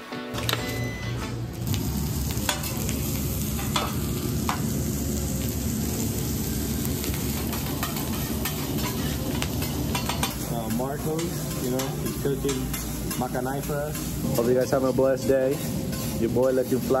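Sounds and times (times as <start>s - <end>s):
food frying and sizzling: 0.0s - 17.0s.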